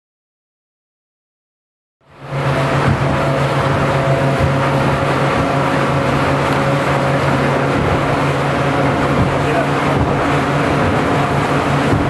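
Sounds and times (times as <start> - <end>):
outboard engine droning: 2.0 - 12.0
wind: 2.0 - 12.0
rushing water: 2.1 - 12.0.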